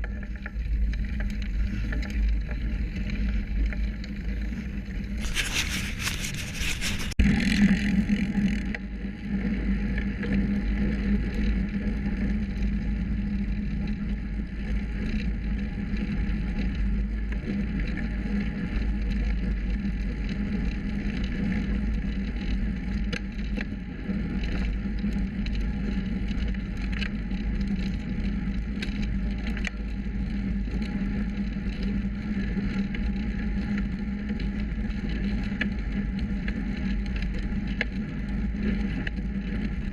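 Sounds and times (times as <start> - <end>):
bicycle tyre rumble: 0.0 - 39.9.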